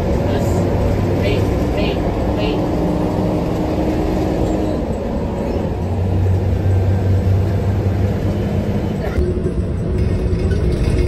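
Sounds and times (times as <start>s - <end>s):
bus diesel engine: 0.0s - 11.0s
road rumble: 0.0s - 11.0s.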